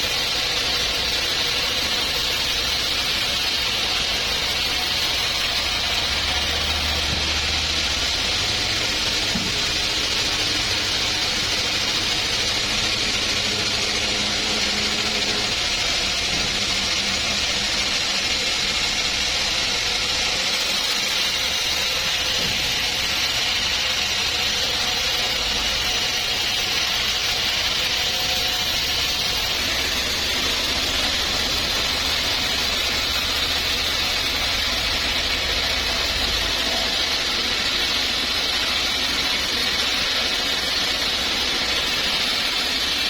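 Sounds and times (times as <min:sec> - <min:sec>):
sawmill machinery running: 0:00.0 - 0:43.0.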